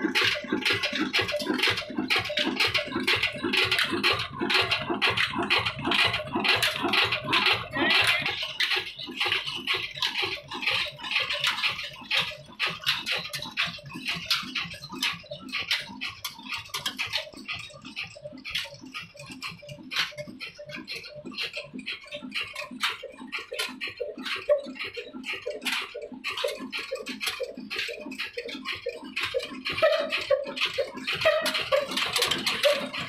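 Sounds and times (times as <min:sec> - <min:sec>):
diesel engine running: 0:00.0 - 0:33.0
rhythmic mechanical clatter: 0:00.0 - 0:33.0.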